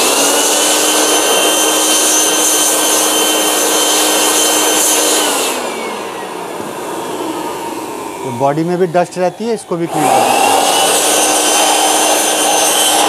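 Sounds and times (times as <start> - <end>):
electric air blower whining: 0.0 - 13.0.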